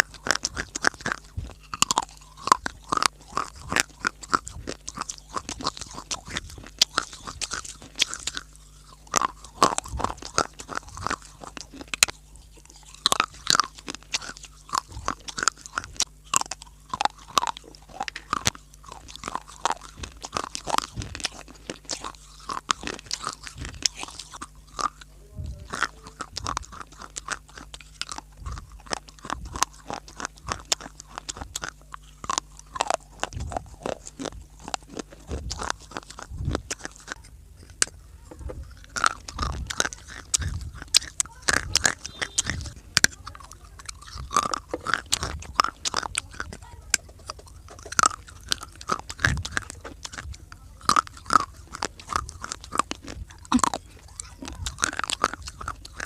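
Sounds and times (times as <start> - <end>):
person chewing crunchy clay: 0.0 - 56.0.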